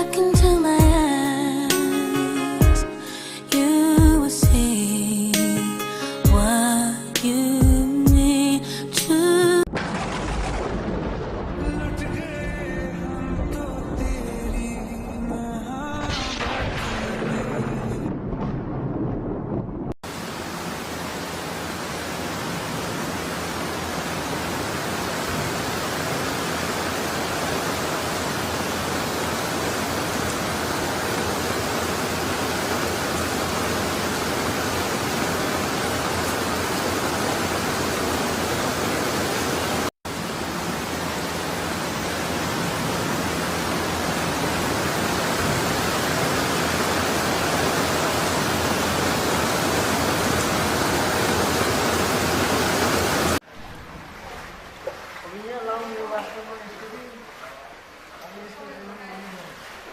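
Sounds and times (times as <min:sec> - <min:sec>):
floodwater rushing: 0:09.6 - 0:18.8, 0:20.0 - 0:59.9.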